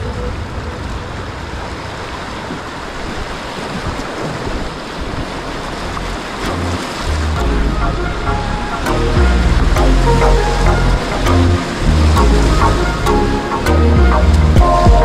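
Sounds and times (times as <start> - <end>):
rapids rushing water: 0.0 - 15.0
wind buffeting microphone: 0.0 - 15.0.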